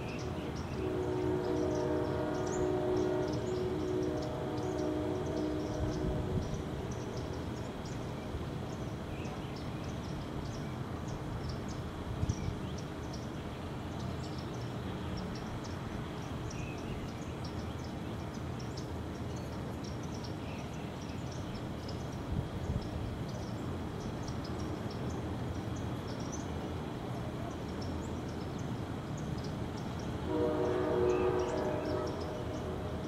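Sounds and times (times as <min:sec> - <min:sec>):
low rumbling hiss: 0:00.0 - 0:33.0.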